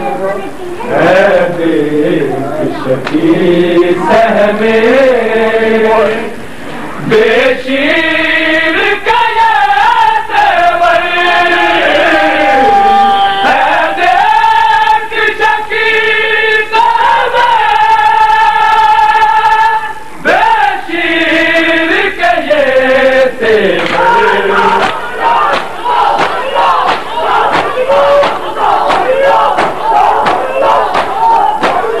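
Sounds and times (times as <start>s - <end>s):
person chanting a mourning lament: 0.2s - 32.0s.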